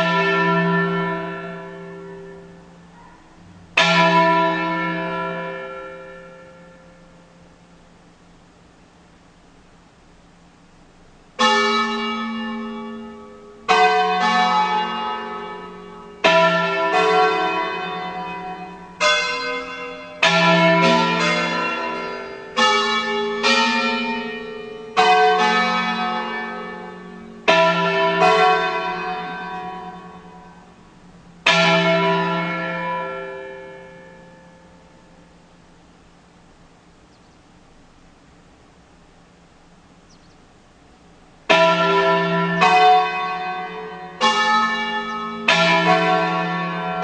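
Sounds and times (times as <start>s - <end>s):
church bells ringing: 0.0s - 7.9s, 11.4s - 36.0s, 41.5s - 47.0s.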